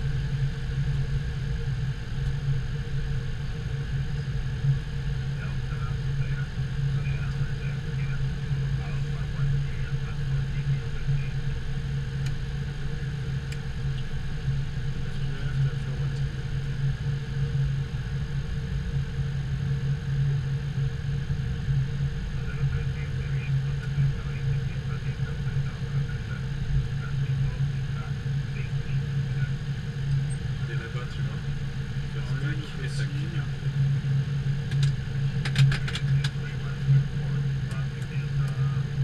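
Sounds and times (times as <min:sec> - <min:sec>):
airliner cockpit low hum: 0:00.0 - 0:39.0.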